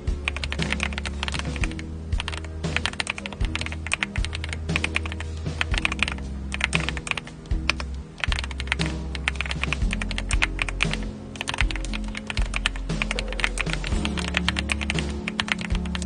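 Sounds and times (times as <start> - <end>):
background music with low notes: 0.0 - 16.0.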